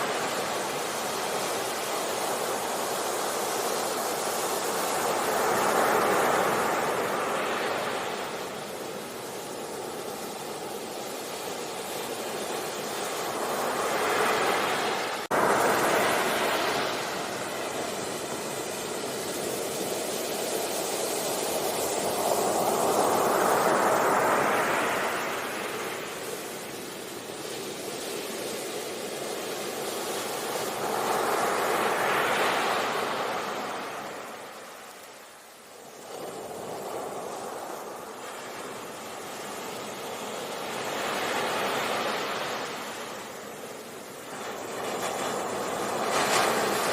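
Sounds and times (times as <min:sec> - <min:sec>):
sea waves breaking on shore: 0:00.0 - 0:46.9.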